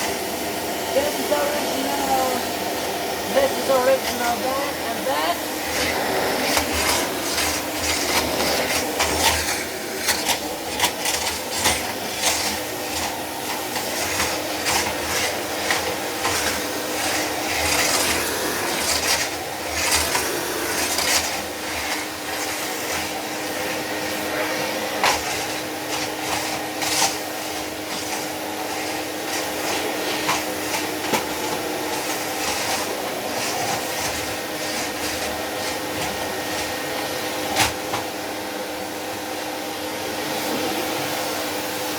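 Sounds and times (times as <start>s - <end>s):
vacuum cleaner motor hum: 0.0s - 41.9s.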